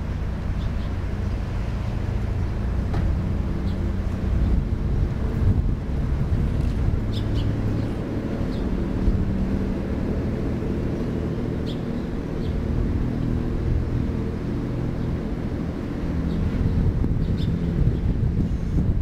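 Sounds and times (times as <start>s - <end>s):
ferry diesel engine drone: 0.0s - 19.0s.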